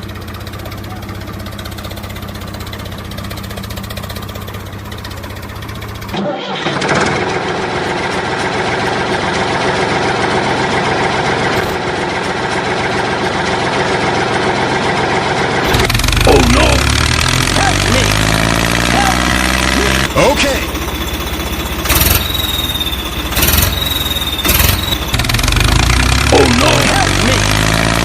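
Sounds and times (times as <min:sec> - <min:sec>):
engine running: 0:00.0 - 0:28.0
louder engine running: 0:00.0 - 0:28.0.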